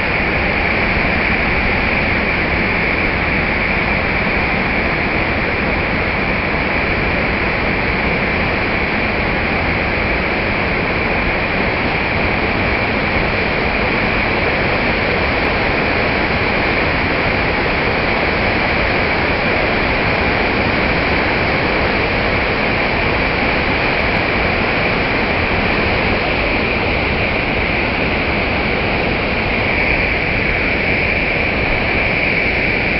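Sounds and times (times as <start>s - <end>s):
water rushing over a weir: 0.0s - 32.9s.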